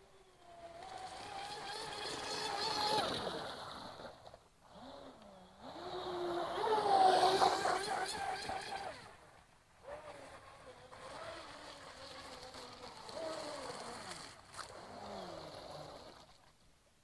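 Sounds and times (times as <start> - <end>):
electric boat motor whining: 0.0 - 16.5.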